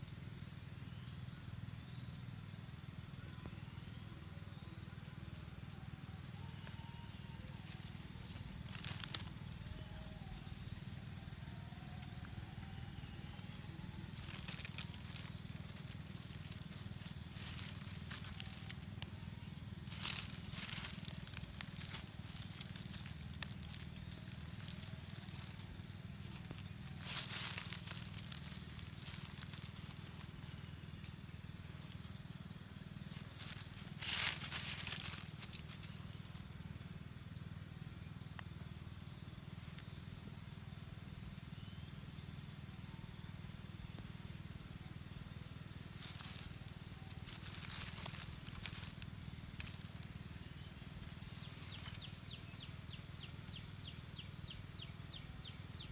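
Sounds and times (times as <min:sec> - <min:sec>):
low hum: 0:00.1 - 0:55.8
dry leaves crackling and rustling: 0:03.0 - 0:41.7, 0:42.3 - 0:55.9.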